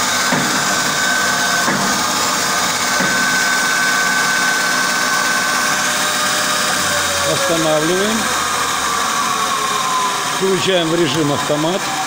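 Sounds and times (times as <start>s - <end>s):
machine cutter head whining: 0.0s - 12.0s.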